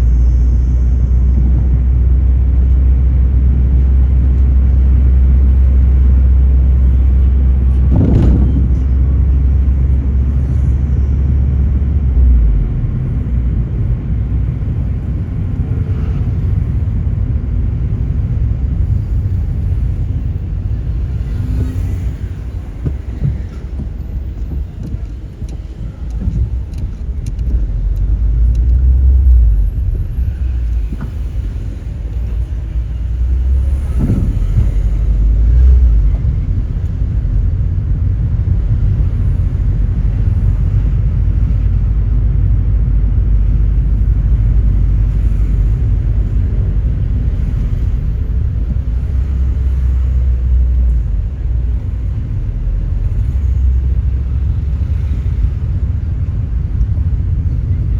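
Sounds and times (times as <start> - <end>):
car engine rumble: 0.0 - 57.9
road noise: 0.0 - 57.9.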